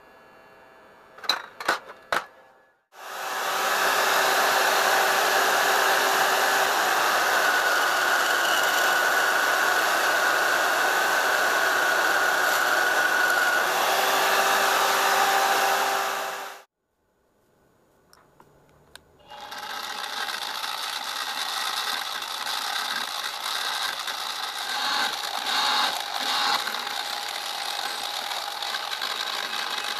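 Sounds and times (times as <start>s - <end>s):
bandsaw cutting metal: 3.0s - 16.7s, 19.2s - 29.9s.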